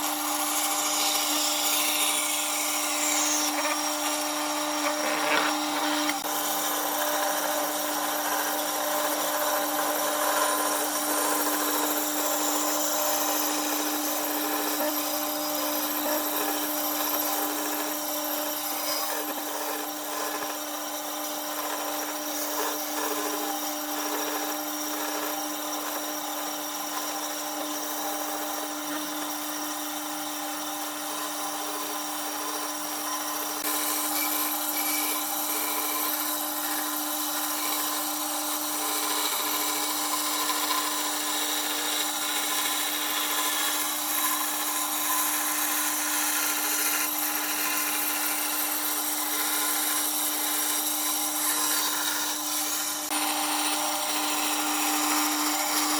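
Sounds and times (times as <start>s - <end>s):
power tool motor hum: 0.0s - 55.9s.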